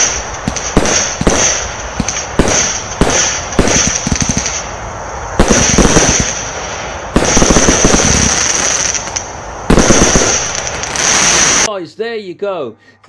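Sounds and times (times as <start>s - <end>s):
dense firework crackle: 0.0s - 11.7s
firework blasts: 0.0s - 11.7s.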